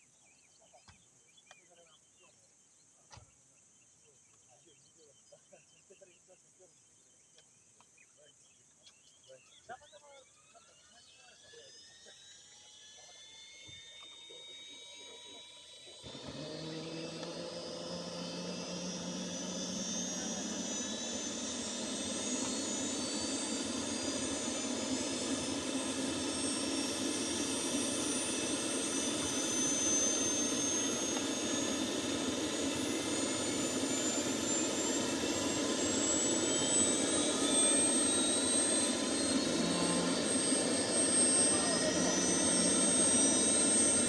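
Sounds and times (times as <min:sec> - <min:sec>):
helicopter turbine whine: 0:08.0 - 0:44.0.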